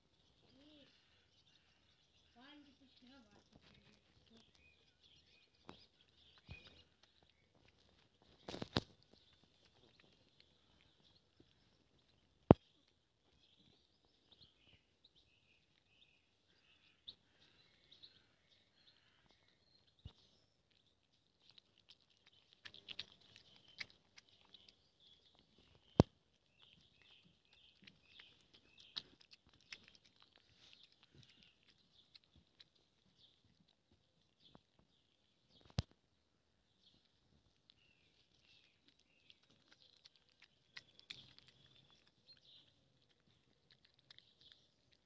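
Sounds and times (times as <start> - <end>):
birds singing faintly: 0.0 - 45.0
cat chewing and lapping food: 0.0 - 45.0.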